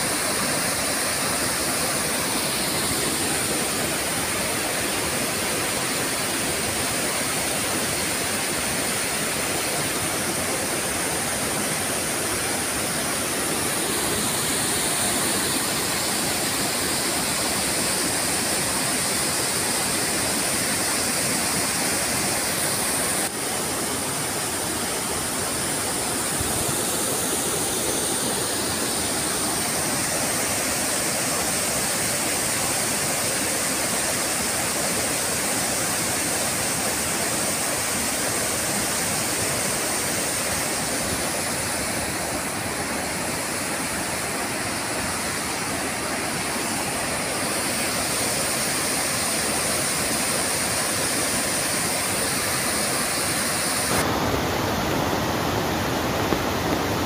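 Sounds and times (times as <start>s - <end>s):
water rushing over dam spillway: 0.0s - 57.0s.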